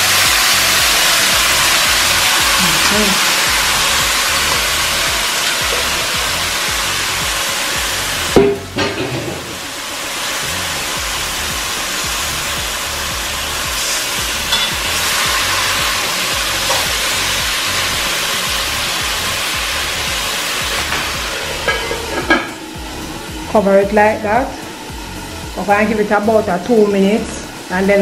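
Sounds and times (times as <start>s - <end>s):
chicken sizzling in hot oil: 0.0s - 28.0s.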